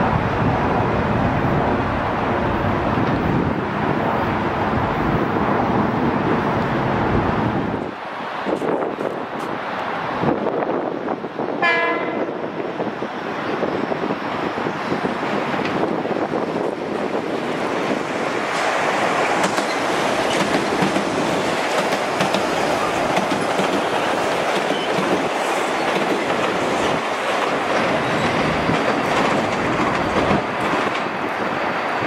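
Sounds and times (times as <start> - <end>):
train wheels rolling on rail: 0.0 - 32.0.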